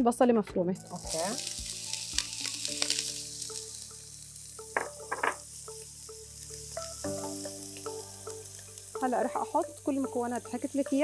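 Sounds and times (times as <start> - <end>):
soft background music: 0.0 - 11.0
onion sizzling in hot oil: 0.8 - 11.0.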